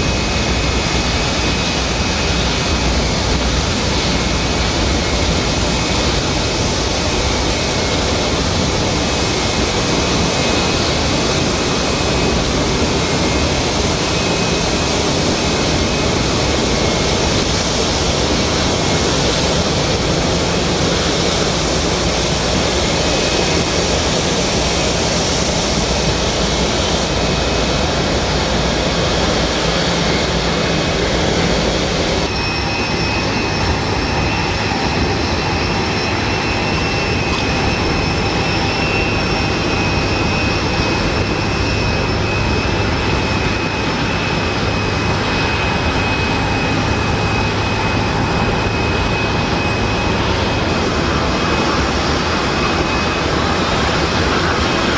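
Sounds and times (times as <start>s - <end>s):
high-pitched turbine whine: 0.0s - 54.9s
jet engines rushing: 0.0s - 54.9s.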